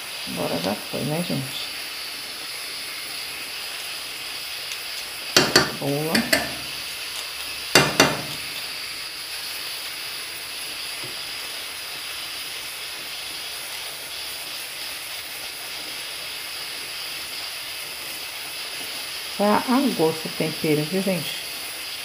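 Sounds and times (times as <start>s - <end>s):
steam hissing from pots: 0.0s - 22.0s.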